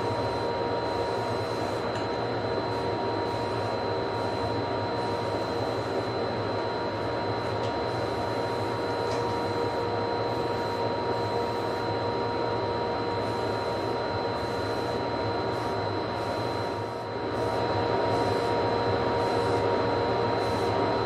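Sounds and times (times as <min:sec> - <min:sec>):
motor droning with high whine: 0:00.0 - 0:21.0.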